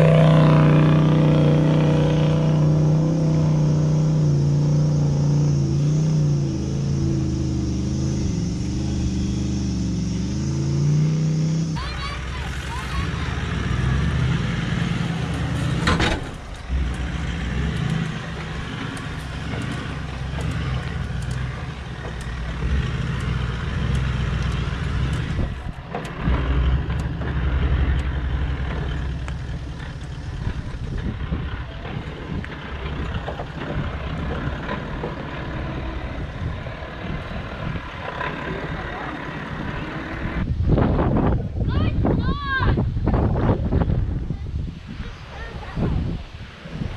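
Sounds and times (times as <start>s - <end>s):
diesel engine at low revs: 0.0s - 42.1s.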